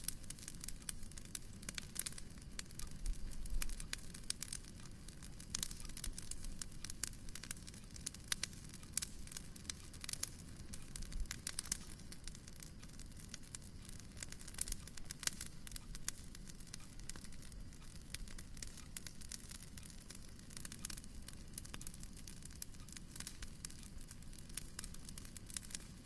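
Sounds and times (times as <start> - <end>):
low fire rumble: 0.0 - 26.0
sharp pops of fire: 0.0 - 26.0
wood fire crackling: 0.0 - 26.0.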